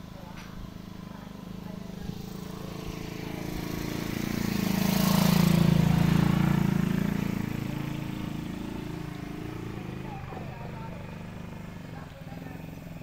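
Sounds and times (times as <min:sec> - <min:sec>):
vehicle engine passing by: 0:00.0 - 0:13.0.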